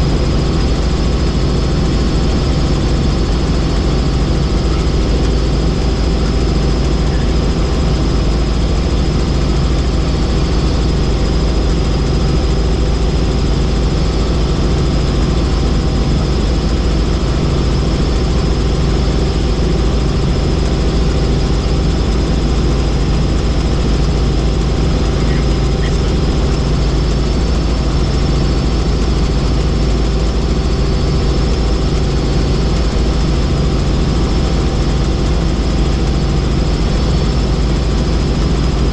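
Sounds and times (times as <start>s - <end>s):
helicopter engine and rotor drone: 0.0s - 38.9s
thin steady whine: 0.0s - 38.9s.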